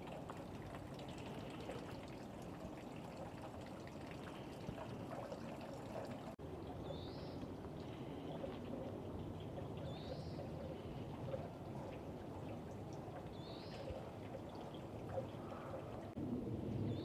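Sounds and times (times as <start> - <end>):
running water: 0.0 - 16.2.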